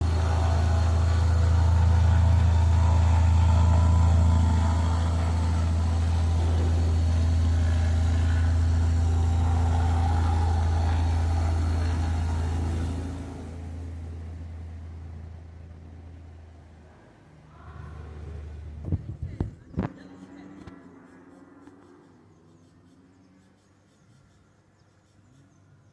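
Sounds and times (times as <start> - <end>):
propeller plane engine drone: 0.0 - 25.9.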